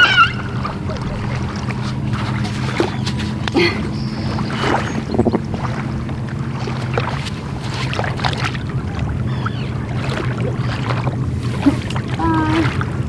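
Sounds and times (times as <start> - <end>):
low motor drone: 0.0 - 13.0
wind on microphone: 0.0 - 13.0.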